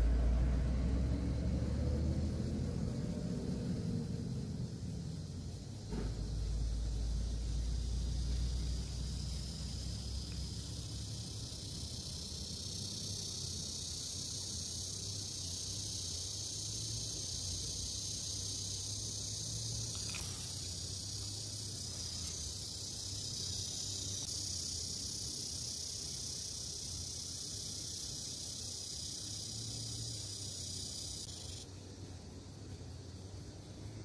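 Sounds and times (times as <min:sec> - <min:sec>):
insects chirring in grass: 0:00.0 - 0:34.0.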